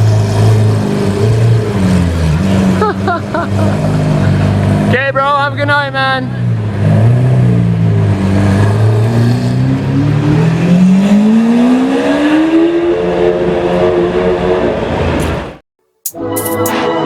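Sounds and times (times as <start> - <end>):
car engine accelerating hard: 0.0 - 15.6.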